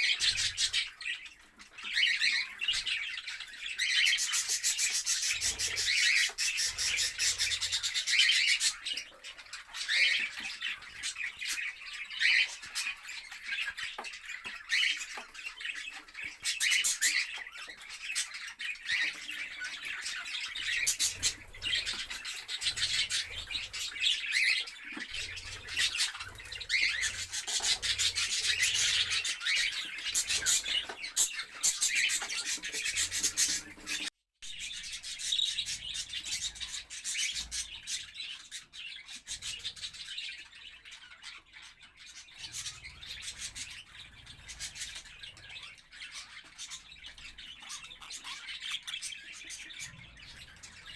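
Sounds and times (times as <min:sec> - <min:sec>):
birds moving clicks and scratches: 0:00.0 - 0:50.9
budgerigars chattering: 0:00.0 - 0:50.9.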